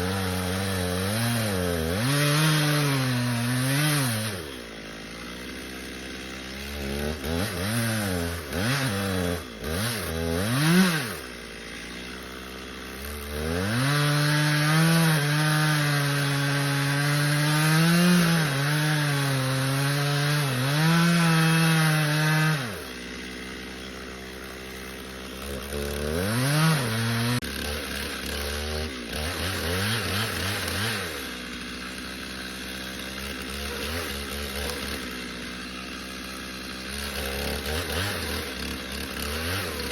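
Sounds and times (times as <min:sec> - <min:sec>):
chainsaw idling: 0:00.0 - 0:39.9
chainsaw revving and cutting: 0:00.0 - 0:39.9.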